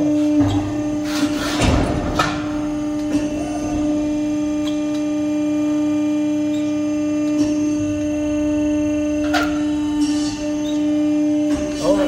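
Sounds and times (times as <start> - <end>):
hydraulic power unit hum: 0.0 - 12.0.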